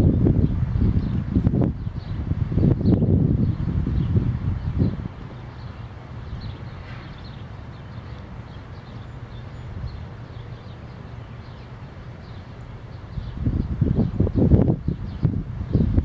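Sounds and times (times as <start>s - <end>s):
low buffeting: 0.0s - 16.0s
bird chirps: 2.8s - 16.0s.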